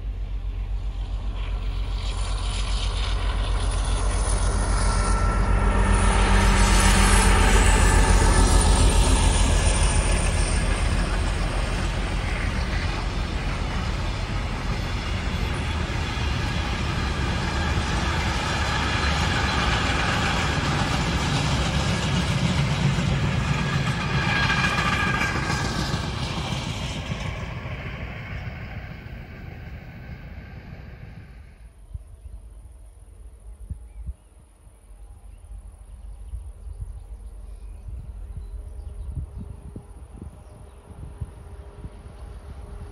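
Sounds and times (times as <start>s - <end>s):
diesel locomotive engine rumble: 0.0s - 42.9s.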